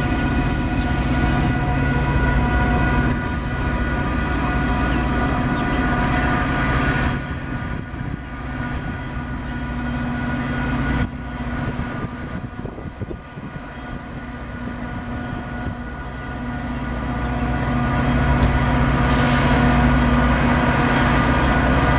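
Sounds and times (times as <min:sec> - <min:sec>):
diesel locomotive engine running: 0:00.0 - 0:21.9.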